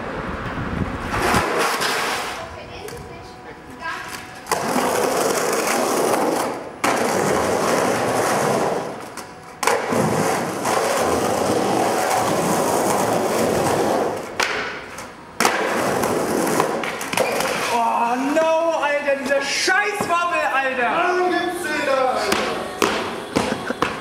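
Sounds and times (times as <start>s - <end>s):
skateboard wheels rolling on concrete: 0.0s - 24.0s.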